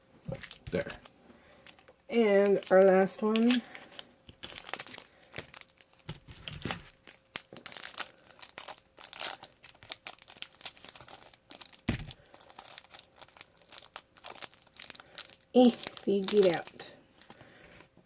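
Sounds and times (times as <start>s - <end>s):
crinkly wrapper being torn open: 0.4s - 17.4s.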